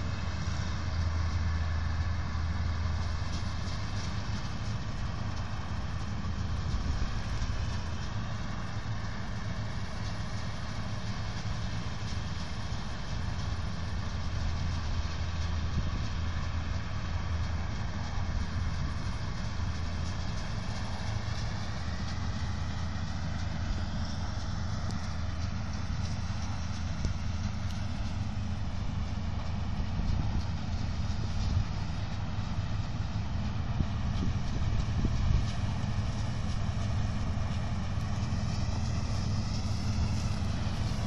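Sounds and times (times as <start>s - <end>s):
low engine drone: 0.0s - 41.0s
threshing machinery hum: 0.0s - 41.0s.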